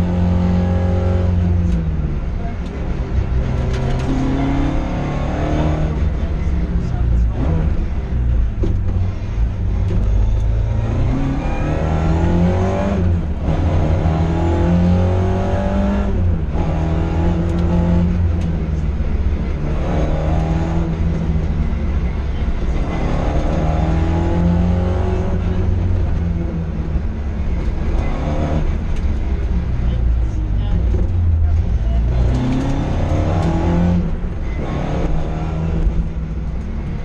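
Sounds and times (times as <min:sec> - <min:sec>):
rally car engine accelerating: 0:00.0 - 0:37.0.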